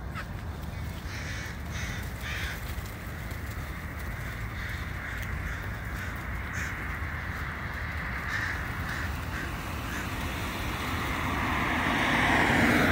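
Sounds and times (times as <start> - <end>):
crows cawing: 0.0 - 12.9
vehicle: 0.0 - 12.9.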